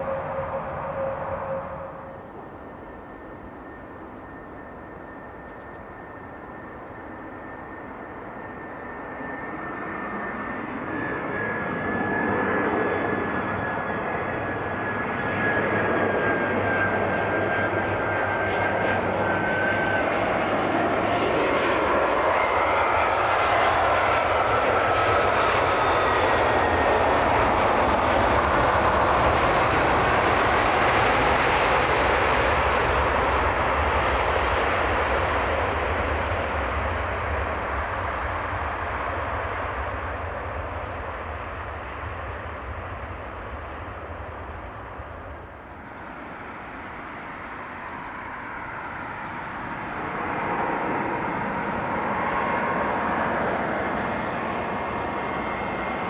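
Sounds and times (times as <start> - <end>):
high engine whines: 0.0 - 56.0
jet airliner engine rush: 0.0 - 56.0.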